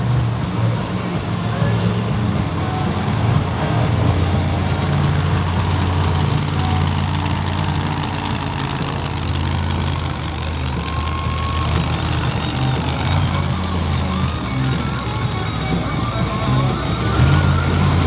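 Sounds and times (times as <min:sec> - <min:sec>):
truck engines idling: 0:00.0 - 0:18.0.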